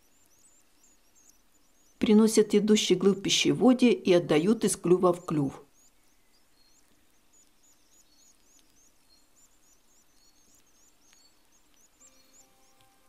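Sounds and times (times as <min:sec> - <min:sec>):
nestlings cheeping: 0:00.0 - 0:13.0.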